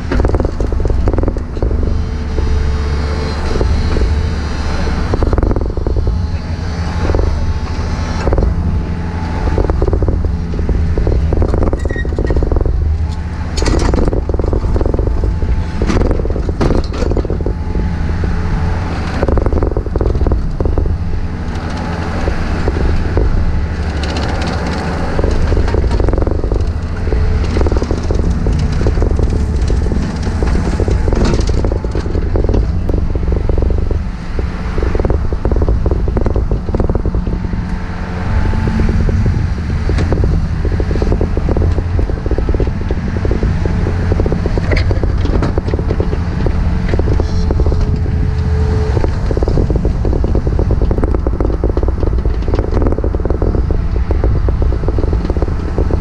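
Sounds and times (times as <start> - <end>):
excavator running under load: 0.0 - 56.0.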